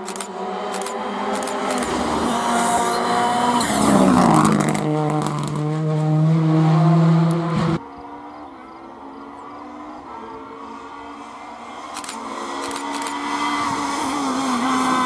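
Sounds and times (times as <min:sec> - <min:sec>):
rally car engine passing at speed: 0:00.3 - 0:15.0.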